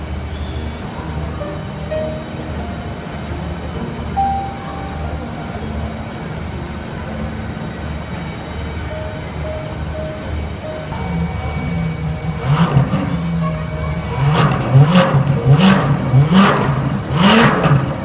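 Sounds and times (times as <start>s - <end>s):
car engine idling: 0.0s - 18.0s
faint music: 0.0s - 18.0s.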